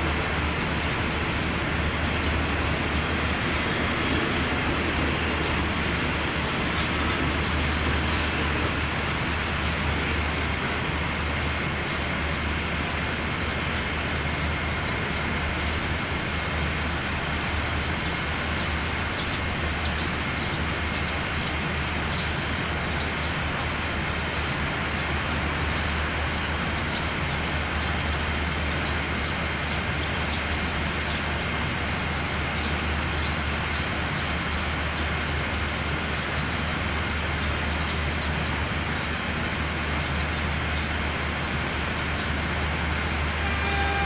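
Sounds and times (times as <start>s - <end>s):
diesel locomotive idling: 0.0s - 44.0s.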